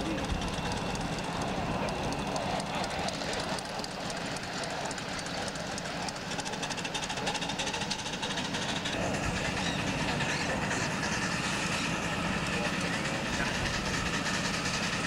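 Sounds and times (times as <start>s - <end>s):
miniature steam train clattering on rails: 0.0s - 15.0s.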